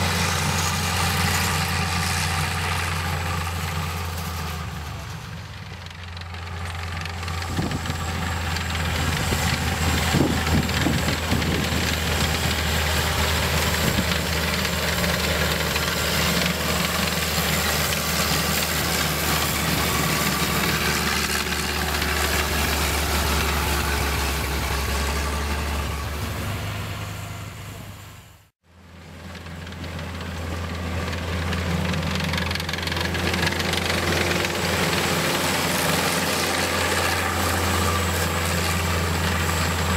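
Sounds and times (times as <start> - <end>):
tracked tractor engine droning: 0.0 - 39.9.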